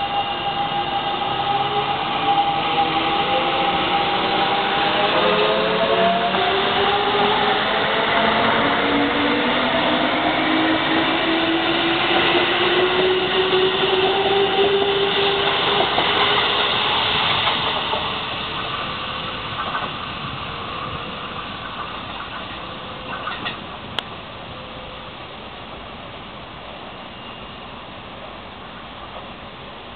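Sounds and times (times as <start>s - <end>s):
wheels rumbling on rail: 0.0s - 29.9s.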